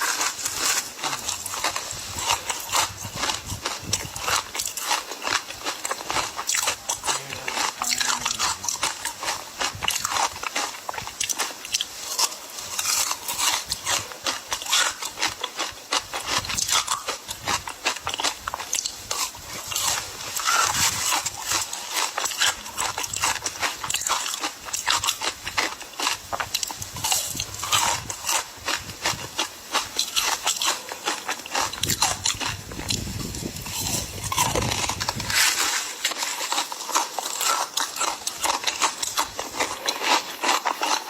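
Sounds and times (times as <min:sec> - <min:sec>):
ice crunching in mouth: 0:00.0 - 0:41.0.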